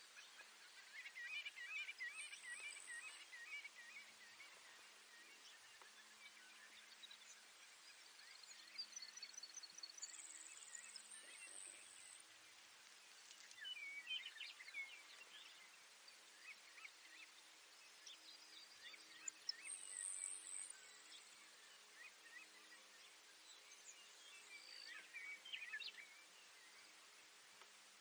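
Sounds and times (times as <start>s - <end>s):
bird chirps: 0.1s - 12.3s, 13.3s - 27.0s.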